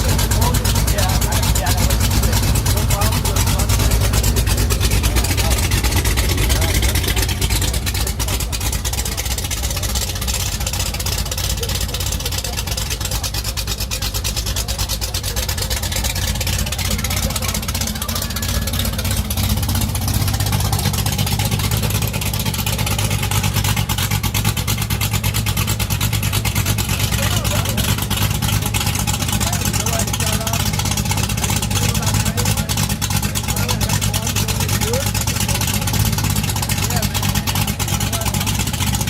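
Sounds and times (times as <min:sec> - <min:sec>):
car engine rumbling: 0:00.0 - 0:39.0.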